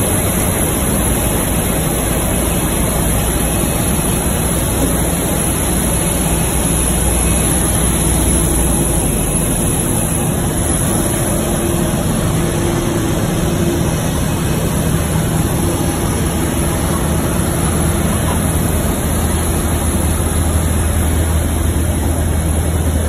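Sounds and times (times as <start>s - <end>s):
aircraft and machinery drone: 0.0s - 23.0s
constant low hum: 0.0s - 23.0s.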